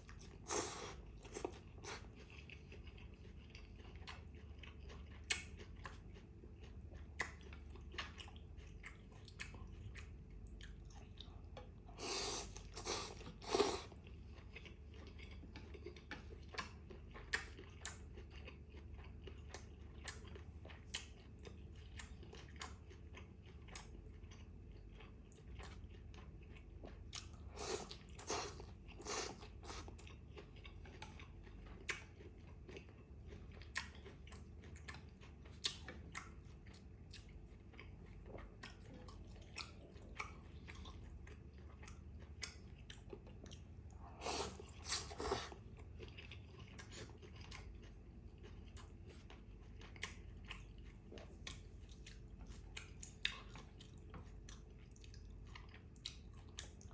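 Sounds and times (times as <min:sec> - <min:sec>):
wet chewing and mouth clicks: 0:00.0 - 0:56.9.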